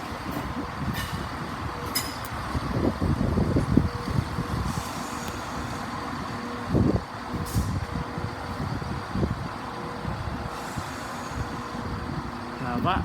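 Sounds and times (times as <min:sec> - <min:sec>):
train low rumble and hum: 0:00.0 - 0:13.0.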